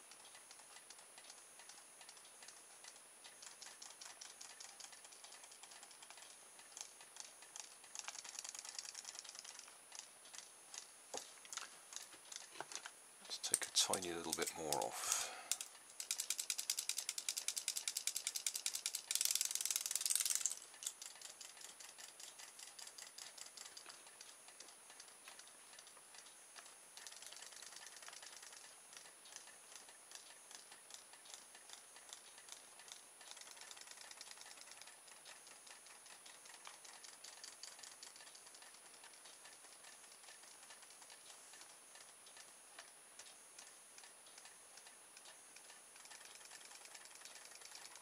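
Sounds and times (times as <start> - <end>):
toy motor ticking rattle: 0.0 - 48.0.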